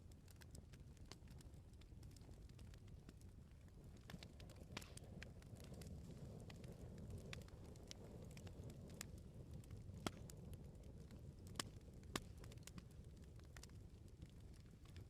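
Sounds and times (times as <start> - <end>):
bonfire crackling: 0.0 - 15.0.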